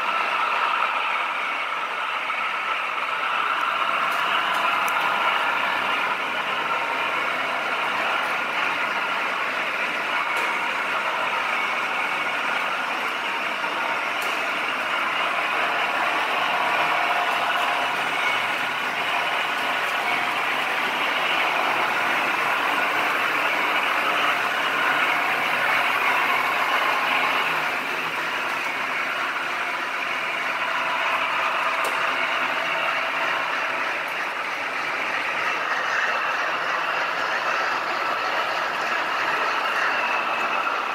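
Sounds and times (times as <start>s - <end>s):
model train motors whirring: 0.0s - 40.9s
wheels rolling over metal track: 3.0s - 40.9s.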